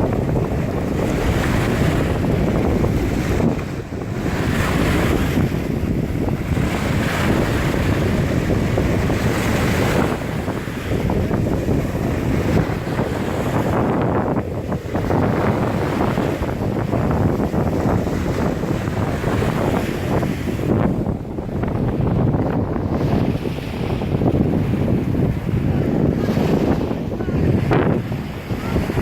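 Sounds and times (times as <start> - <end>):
ocean surf breaking: 0.0 - 29.0
wind buffeting microphone: 0.0 - 29.0.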